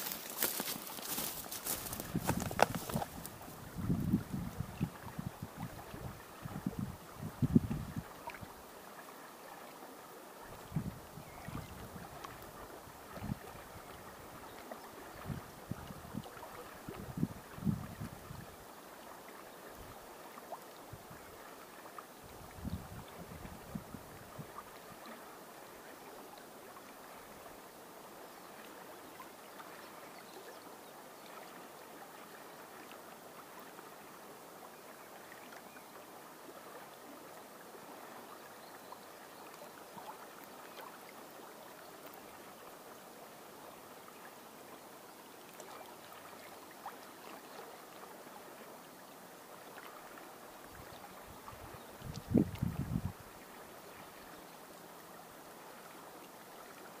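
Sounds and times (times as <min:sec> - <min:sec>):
river water lapping: 0:00.0 - 0:57.0.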